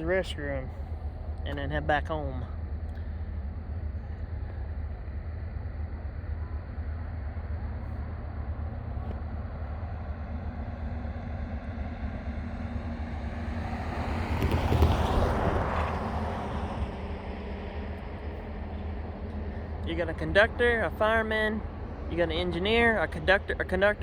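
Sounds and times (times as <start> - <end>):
diesel locomotive idling: 0.0 - 24.0.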